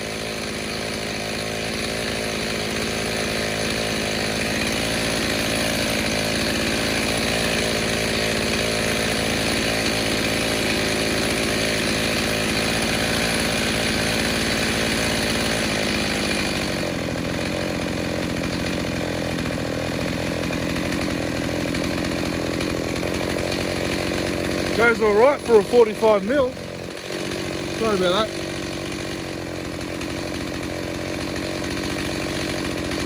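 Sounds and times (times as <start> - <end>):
chainsaw running at high revs: 0.0 - 33.0.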